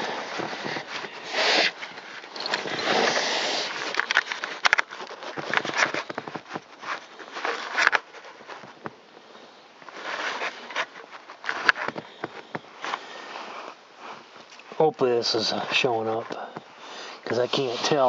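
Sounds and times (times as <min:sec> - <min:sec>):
handling noise rustling and scraping: 0:00.0 - 0:18.0.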